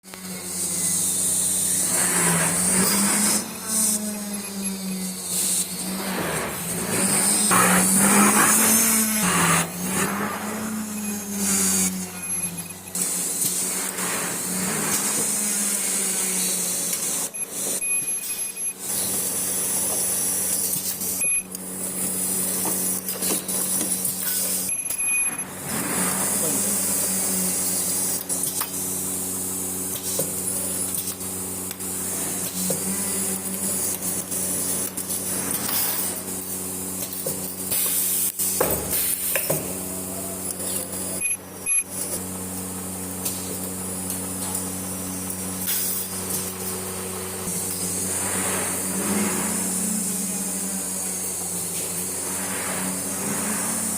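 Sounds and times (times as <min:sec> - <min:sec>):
machinery high whine: 0:00.0 - 0:53.9
machinery low hum: 0:00.1 - 0:53.9.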